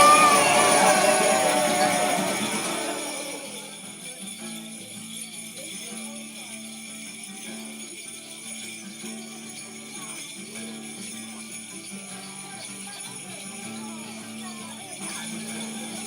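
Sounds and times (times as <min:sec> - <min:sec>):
festive holiday tune with sleigh bells: 0:00.0 - 0:16.0.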